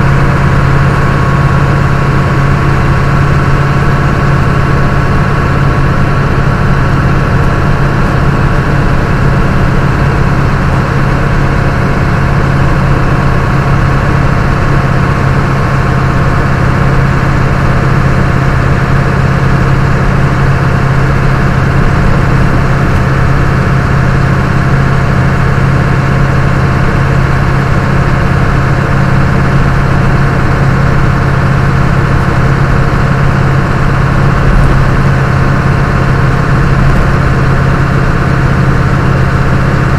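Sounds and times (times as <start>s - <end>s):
truck engine drone in cab: 0.0s - 39.9s.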